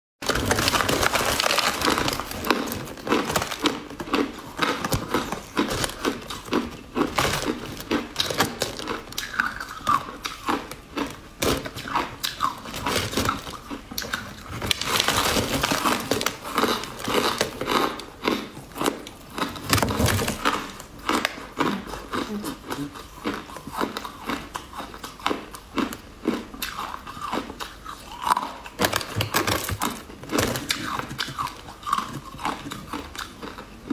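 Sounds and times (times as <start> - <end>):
crunchy food chewing: 0.2 - 33.9.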